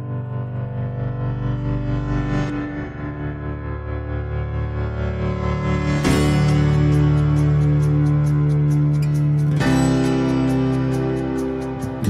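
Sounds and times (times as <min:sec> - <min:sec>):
music of sustained chords: 0:00.0 - 0:12.0.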